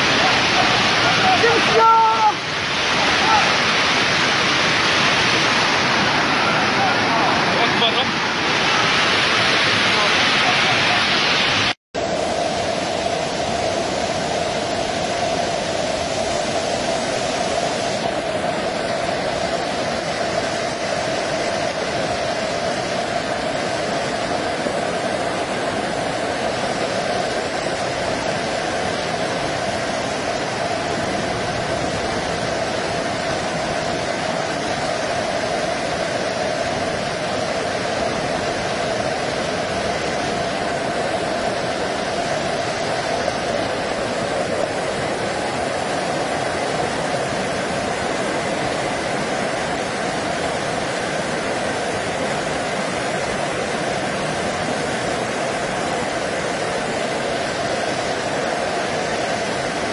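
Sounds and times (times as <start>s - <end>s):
flood water rushing down stairs: 0.0s - 59.9s.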